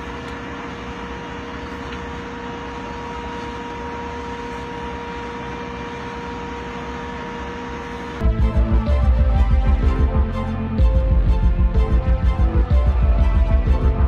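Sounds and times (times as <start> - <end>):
steady whine: 0.0 - 14.0
diesel engine droning: 1.7 - 14.0.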